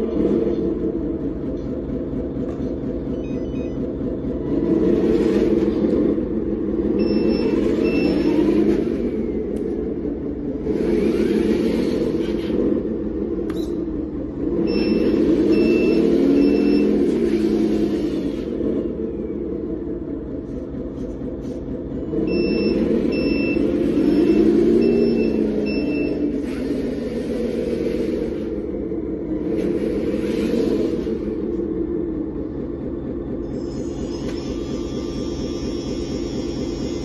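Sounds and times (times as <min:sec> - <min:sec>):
simulated diesel truck engine: 0:00.0 - 0:37.0.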